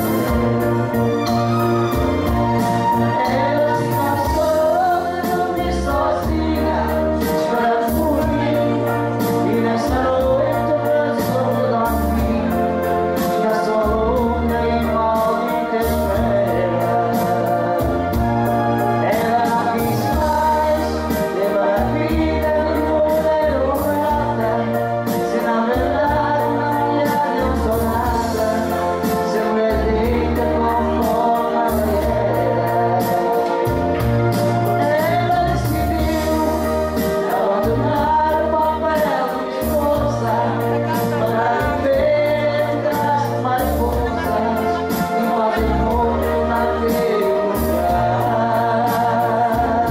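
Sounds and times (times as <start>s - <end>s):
backing track with bass line: 0.0s - 49.9s
man singing into microphone: 0.0s - 49.9s
woman singing into microphone: 2.2s - 49.9s.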